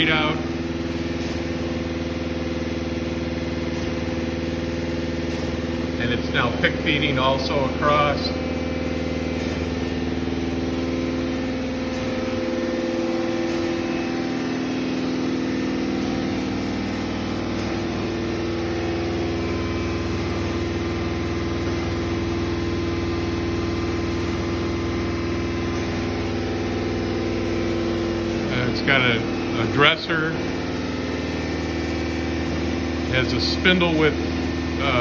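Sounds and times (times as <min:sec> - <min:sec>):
grinder machine hum: 0:00.0 - 0:35.0.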